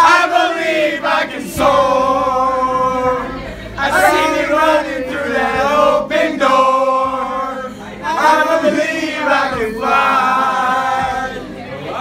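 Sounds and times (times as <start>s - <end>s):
boys singing together: 0.0s - 12.0s.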